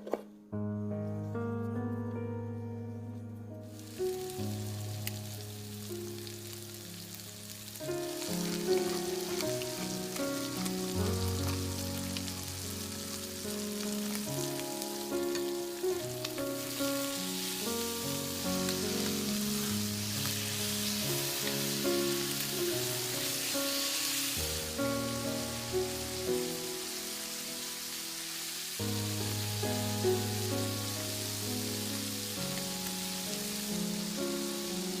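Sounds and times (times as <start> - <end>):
gentle background music: 0.0 - 35.0
food sizzling in a pan: 3.7 - 35.0.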